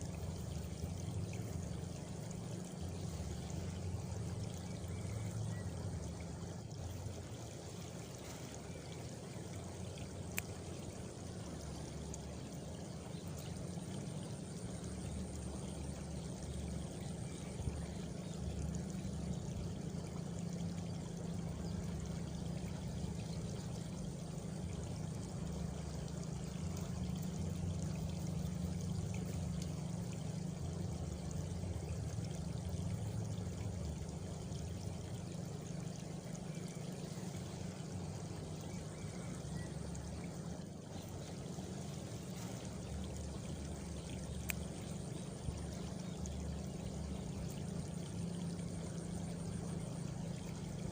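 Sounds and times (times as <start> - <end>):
flowing water: 0.0 - 50.9.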